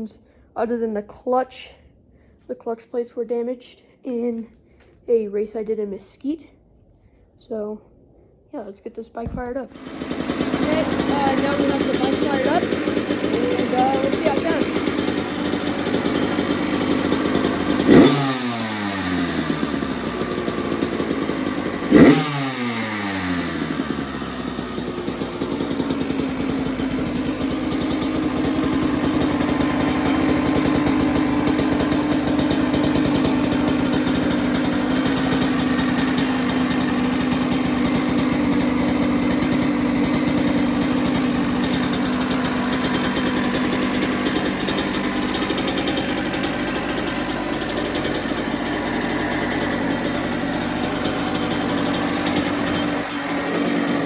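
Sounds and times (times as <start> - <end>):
two-stroke engine revving and idling: 9.3 - 54.0.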